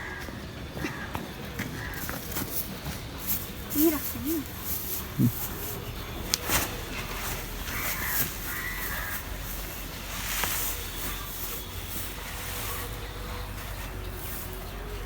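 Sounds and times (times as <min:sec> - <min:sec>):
bird calling: 0:00.0 - 0:15.0.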